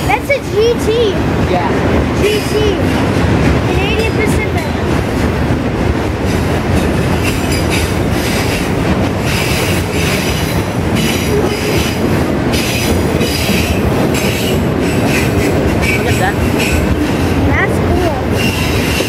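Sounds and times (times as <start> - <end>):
freight train wheels on rail: 0.0 - 19.0
train clatter: 0.0 - 19.0.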